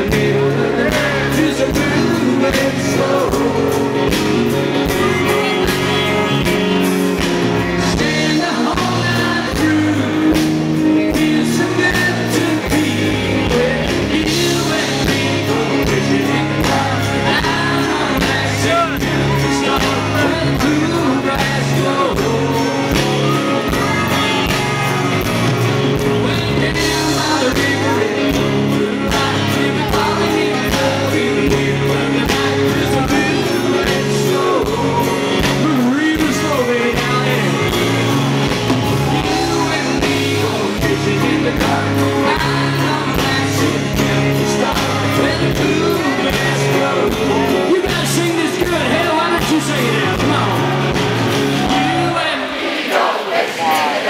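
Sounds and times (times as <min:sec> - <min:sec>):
country band playing live: 0:00.0 - 0:54.0
person singing lead vocal: 0:00.0 - 0:54.0.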